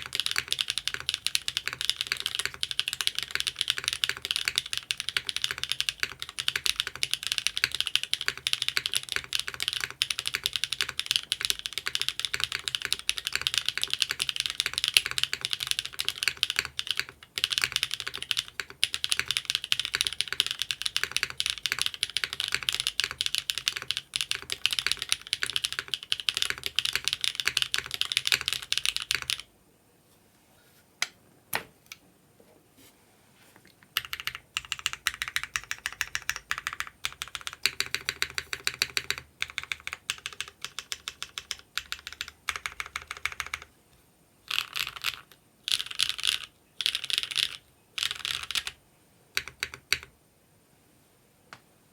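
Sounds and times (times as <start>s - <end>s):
fast typing on mechanical keyboard: 0.0s - 29.5s, 33.9s - 43.7s, 44.5s - 48.8s, 49.4s - 50.1s.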